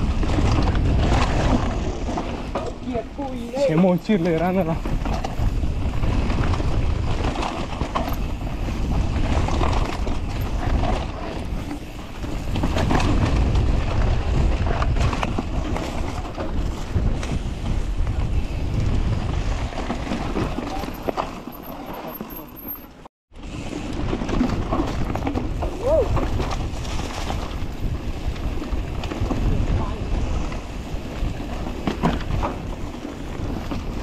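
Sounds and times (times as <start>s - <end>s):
wind buffeting microphone: 0.0s - 21.2s, 23.4s - 34.0s
bike rattling clicks and knocks: 0.0s - 34.0s.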